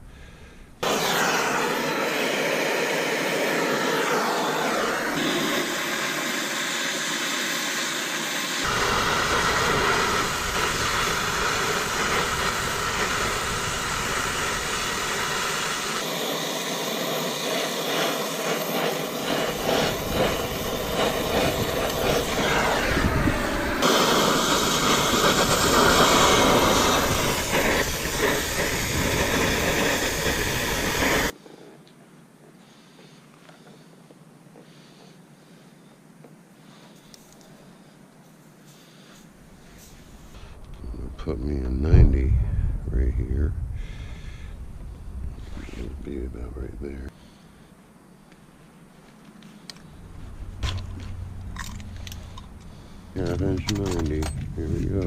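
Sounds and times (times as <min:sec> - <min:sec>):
brazing torch flame hissing: 0:00.0 - 0:31.4, 0:36.6 - 0:55.0.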